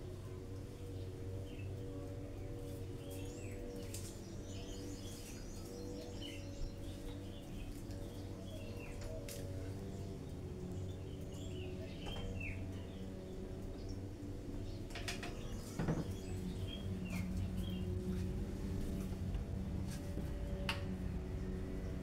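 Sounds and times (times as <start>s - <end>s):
small birds chirping: 0.0s - 22.0s
steady low hum: 0.0s - 22.0s.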